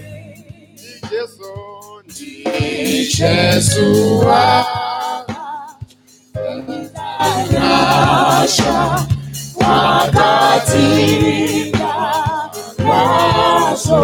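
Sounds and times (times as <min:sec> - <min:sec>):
gospel choir singing: 0:00.0 - 0:00.9, 0:01.8 - 0:14.0.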